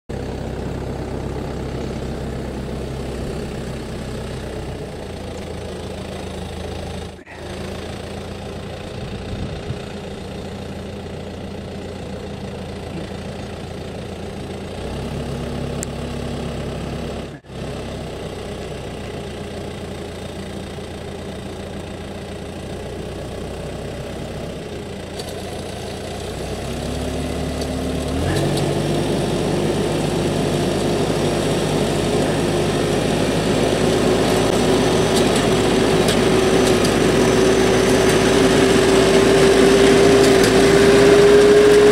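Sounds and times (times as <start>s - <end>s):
tractor diesel engine running: 0.1s - 41.9s.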